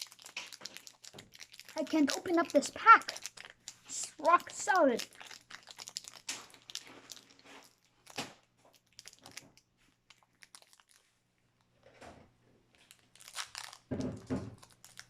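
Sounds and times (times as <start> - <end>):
foil wrapper crinkling: 0.0 - 11.1, 12.8 - 15.0.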